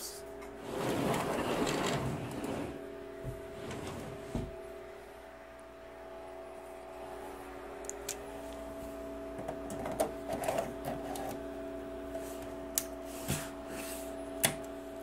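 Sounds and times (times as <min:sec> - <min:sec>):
server hum: 0:00.0 - 0:15.0.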